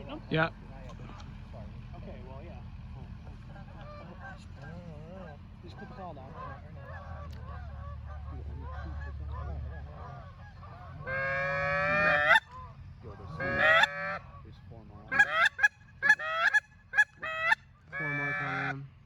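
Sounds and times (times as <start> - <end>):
geese honking: 2.8 - 19.0.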